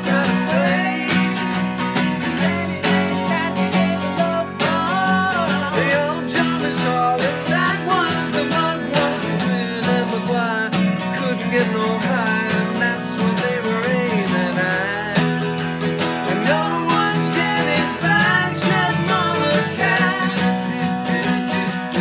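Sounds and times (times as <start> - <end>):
acoustic guitar strumming: 0.0 - 22.0
person singing: 0.0 - 22.0.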